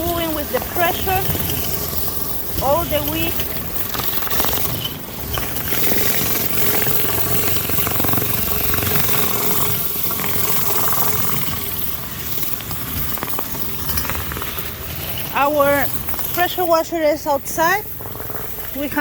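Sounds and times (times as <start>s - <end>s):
pressure washer spraying concrete: 0.0s - 19.0s.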